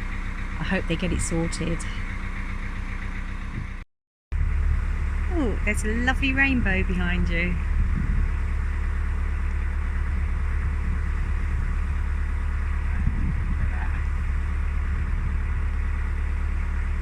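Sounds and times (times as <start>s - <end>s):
boat diesel engine rumbling: 0.0s - 3.8s, 4.4s - 17.0s.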